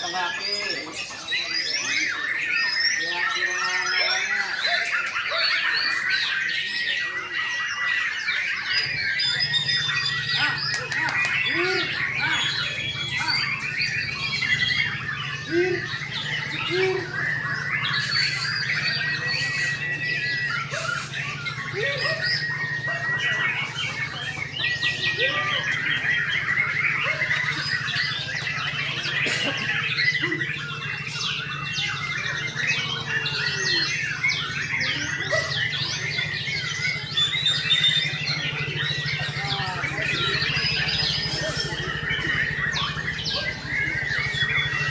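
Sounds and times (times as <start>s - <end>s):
birds singing varied phrases: 0.0s - 44.9s
harsh bird chatter: 0.0s - 44.9s.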